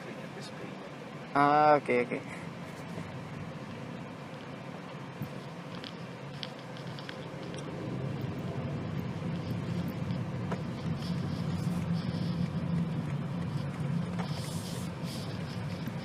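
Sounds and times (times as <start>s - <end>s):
car interior road and engine hum: 0.0s - 16.0s.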